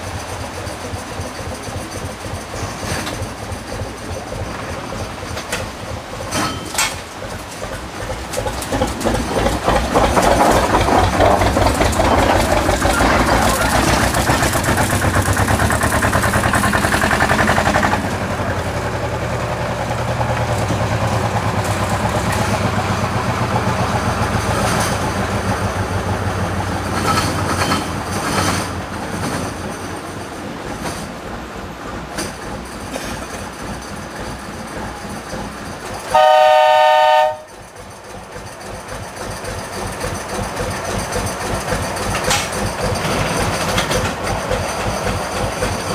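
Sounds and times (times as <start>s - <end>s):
steam locomotive exhaust beats: 0.0s - 45.9s.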